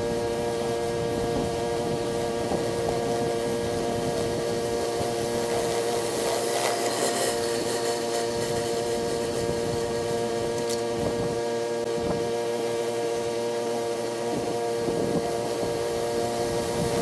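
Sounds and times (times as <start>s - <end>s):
pump engine drone: 0.0s - 17.0s
water spray hissing: 0.0s - 17.0s.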